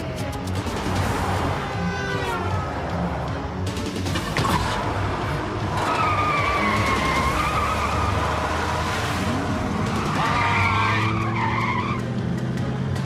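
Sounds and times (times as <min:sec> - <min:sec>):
car engine rumble: 0:00.0 - 0:13.0
car tyres squealing: 0:00.7 - 0:03.3, 0:04.2 - 0:12.2.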